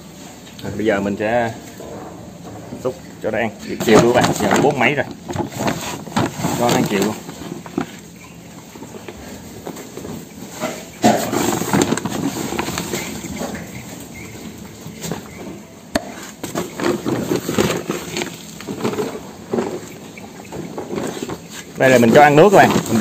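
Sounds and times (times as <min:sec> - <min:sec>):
pigs eating at trough: 0:00.0 - 0:23.0.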